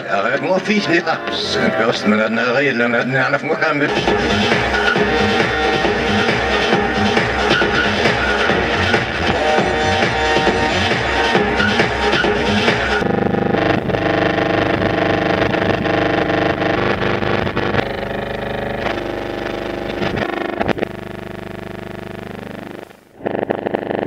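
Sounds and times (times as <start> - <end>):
dense electronic drone: 0.0 - 24.0.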